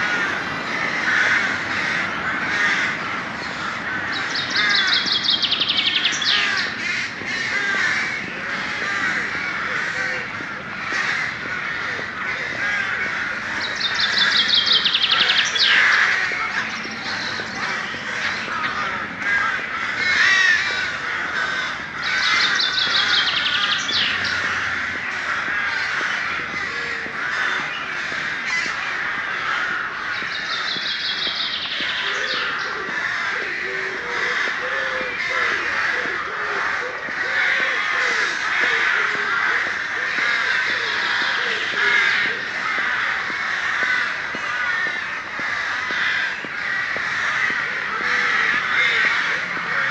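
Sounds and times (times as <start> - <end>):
many birds chattering: 0.0 - 49.9.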